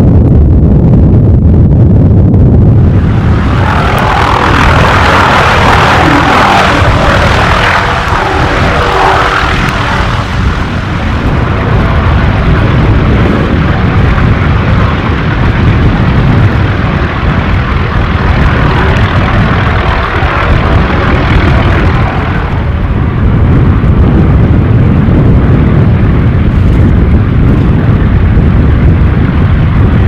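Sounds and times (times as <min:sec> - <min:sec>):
helicopter rotor and engine drone: 0:01.6 - 0:30.0.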